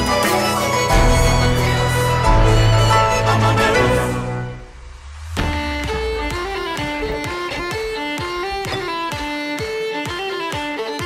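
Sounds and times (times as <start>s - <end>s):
string instrument music: 0.0s - 11.0s.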